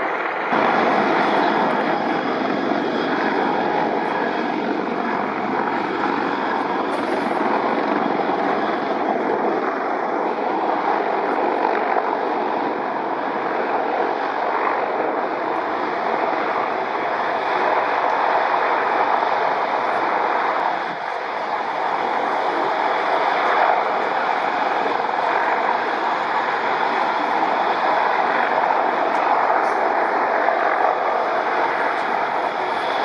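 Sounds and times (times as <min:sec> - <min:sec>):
helicopter flying: 0:00.0 - 0:33.0.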